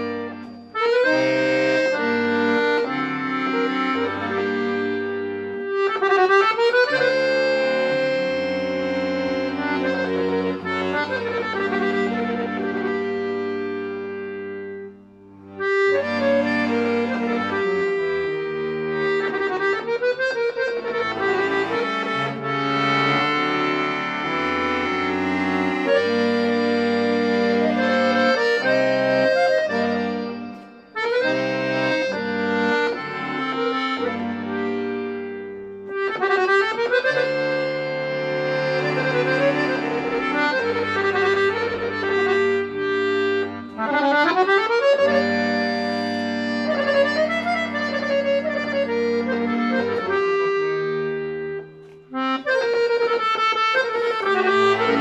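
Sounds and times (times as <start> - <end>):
accordion playing solo: 0.0 - 55.0.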